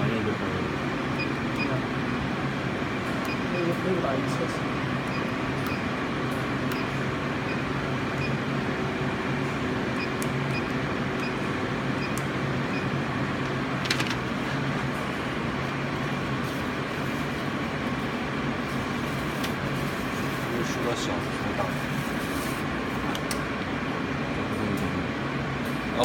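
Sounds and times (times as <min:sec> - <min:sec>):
printer humming: 0:00.0 - 0:26.0.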